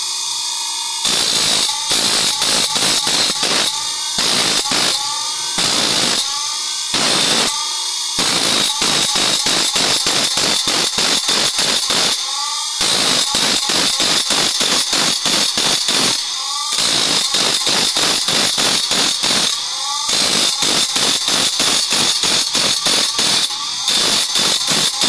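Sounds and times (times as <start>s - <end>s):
grinder wheel grinding steel: 0.0s - 25.0s.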